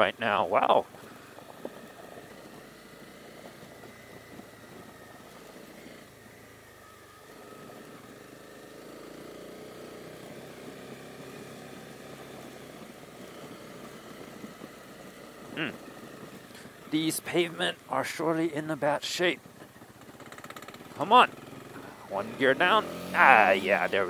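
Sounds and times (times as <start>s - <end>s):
motorcycle engine running: 0.0s - 24.0s
tyres on gravel: 0.0s - 24.0s.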